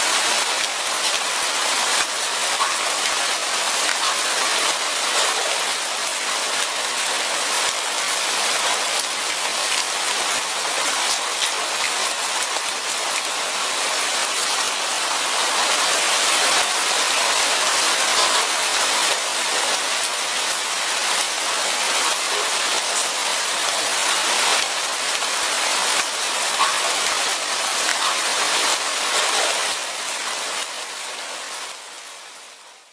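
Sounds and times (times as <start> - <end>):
light rain falling: 0.0 - 32.9.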